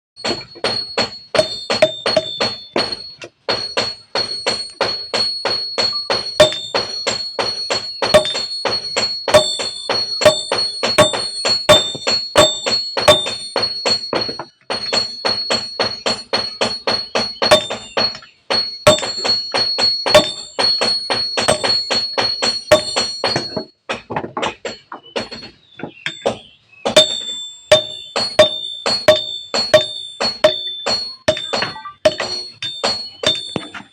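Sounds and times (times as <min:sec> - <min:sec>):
hammer ringing on anvil: 0:00.2 - 0:25.5, 0:26.1 - 0:33.9.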